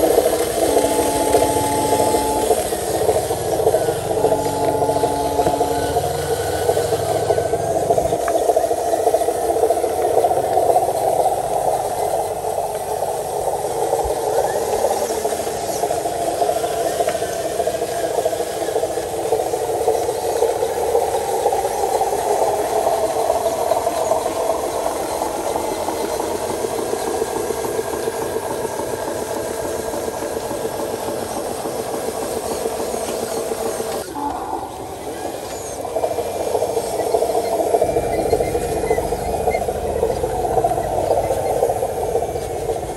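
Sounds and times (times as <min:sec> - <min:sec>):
model truck motor running: 0:00.0 - 0:42.9.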